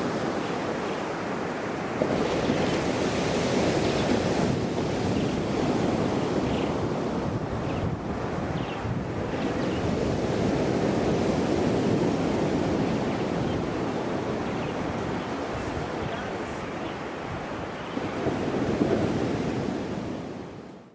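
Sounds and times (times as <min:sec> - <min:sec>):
surf washing onto beach: 0:00.0 - 0:20.9
wind rumbling on microphone: 0:00.0 - 0:20.9.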